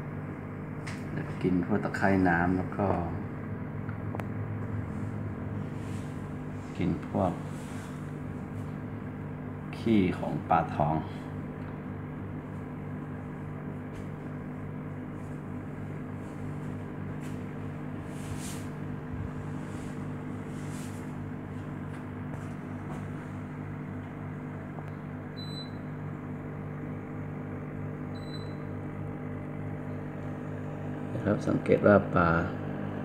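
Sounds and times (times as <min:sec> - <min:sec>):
aquarium pump humming: 0:00.0 - 0:33.0.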